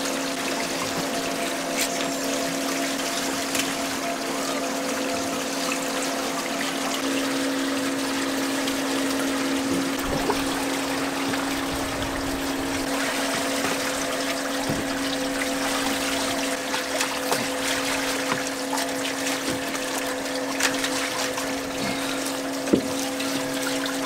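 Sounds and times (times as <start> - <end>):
boat machinery hum: 0.0 - 24.0
water running on deck: 0.0 - 24.0.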